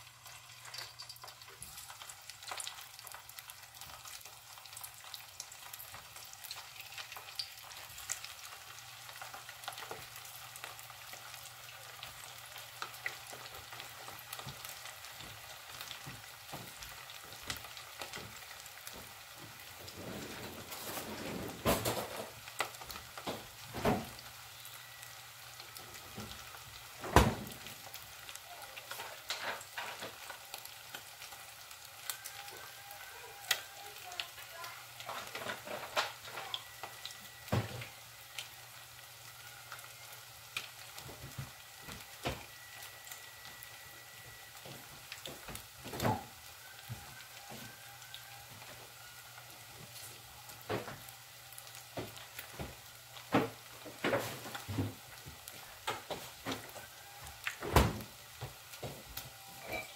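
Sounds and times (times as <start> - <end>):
food sizzling in oil: 0.0 - 59.9
oil popping and crackling: 0.0 - 59.9.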